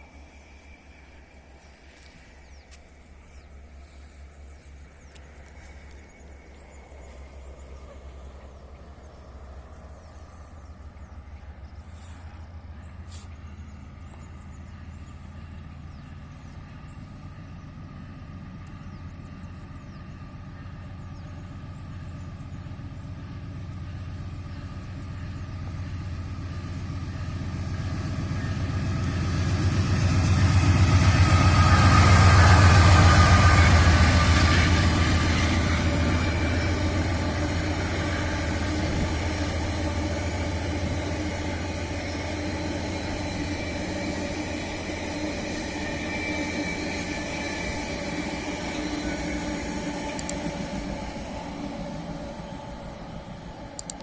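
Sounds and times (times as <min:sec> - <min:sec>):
diesel locomotive passing: 0:00.0 - 0:54.0.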